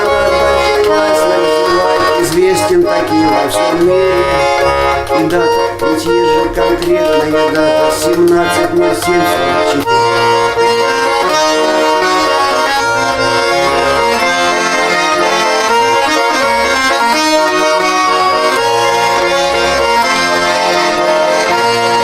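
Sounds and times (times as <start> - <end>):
button accordion playing: 0.0 - 22.0.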